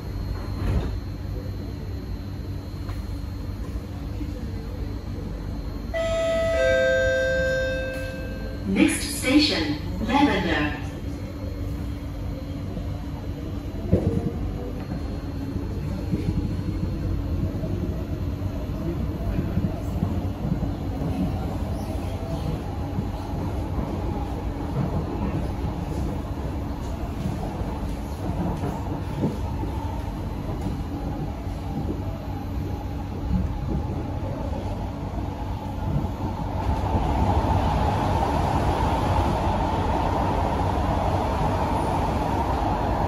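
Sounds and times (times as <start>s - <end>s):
train wheels rumbling on track: 5.3s - 43.0s.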